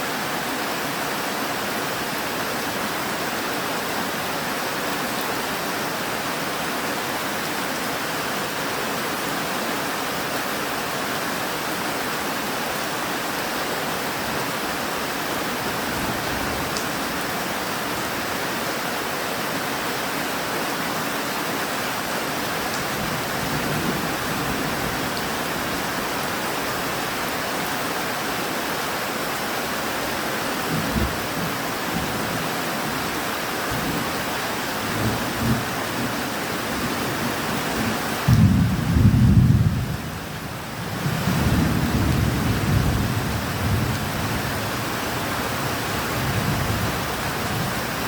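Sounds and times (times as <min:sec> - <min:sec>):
heavy rainfall: 0:00.0 - 0:48.0.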